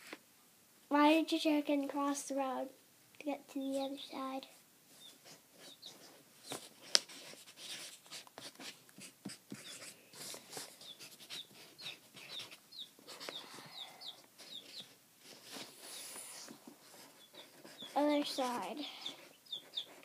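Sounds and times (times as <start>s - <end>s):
baby chicks peeping: 3.6s - 20.0s
rustling: 3.8s - 20.0s.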